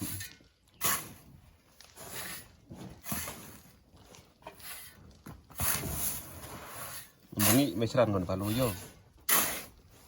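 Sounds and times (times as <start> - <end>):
shovel scraping sand: 0.0 - 3.7, 5.6 - 10.0.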